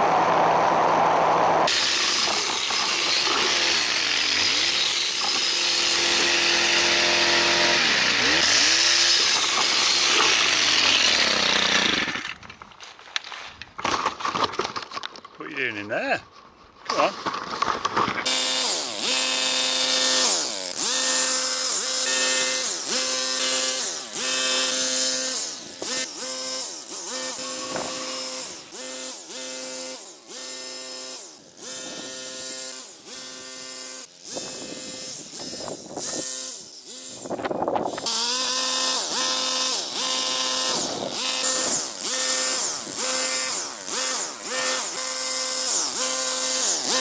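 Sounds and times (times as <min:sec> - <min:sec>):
petrol hedge trimmer revving: 0:01.6 - 0:12.5, 0:16.9 - 0:47.0.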